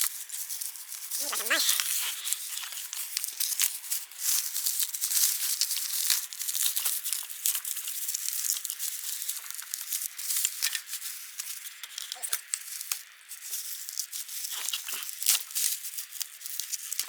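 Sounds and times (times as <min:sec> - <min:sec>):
bubble wrap crinkling and snapping: 0:00.0 - 0:17.0.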